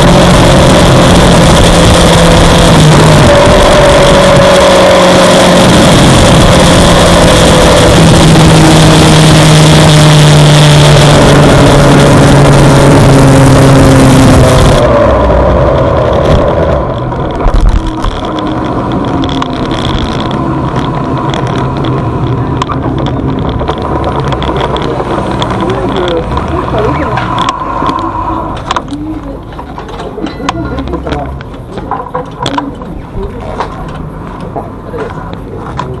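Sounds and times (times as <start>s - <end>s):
wind rush: 0.0s - 29.8s
motorcycle engine running hard: 0.0s - 36.0s.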